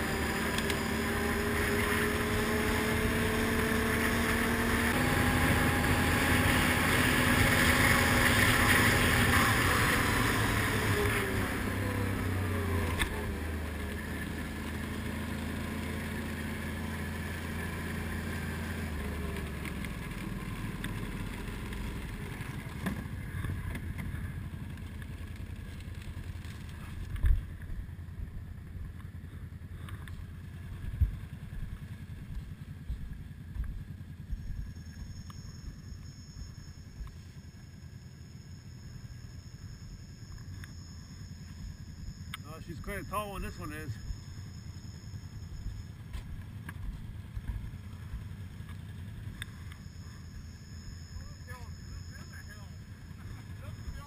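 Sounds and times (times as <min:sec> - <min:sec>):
atv engine running: 0:00.0 - 0:54.0
gravel noise: 0:00.0 - 0:54.0
wind: 0:00.0 - 0:54.0.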